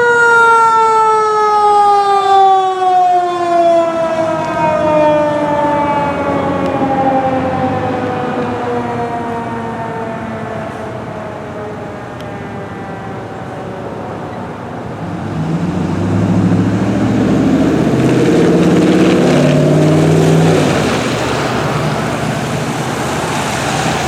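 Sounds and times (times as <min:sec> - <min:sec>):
fire engine siren winding down: 0:00.0 - 0:24.0
truck diesel engine passing: 0:03.3 - 0:24.0.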